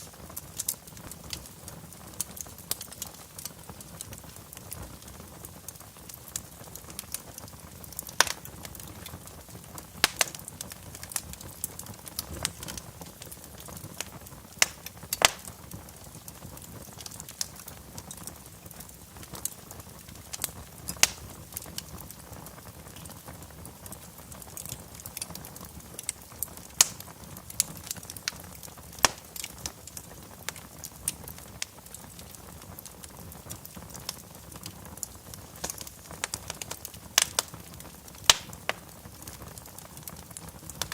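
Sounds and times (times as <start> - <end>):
low hiss of flames: 0.0 - 40.9
wood fire crackling and popping: 0.0 - 40.9.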